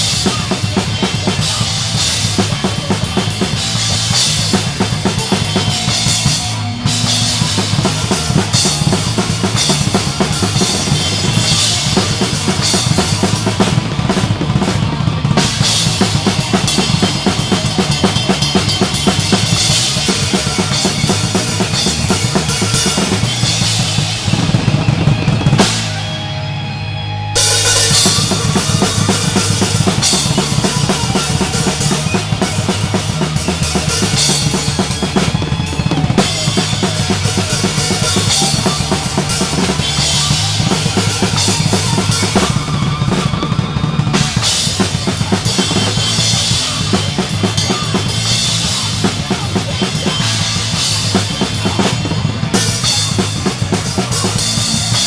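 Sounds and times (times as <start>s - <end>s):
drum kit hits and cymbals: 0.0s - 26.6s, 27.4s - 55.0s
band playing: 0.0s - 55.0s.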